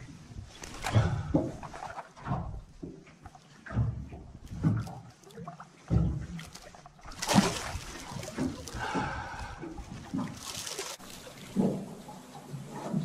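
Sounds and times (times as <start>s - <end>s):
water splashing beside boat hull: 0.0s - 13.0s.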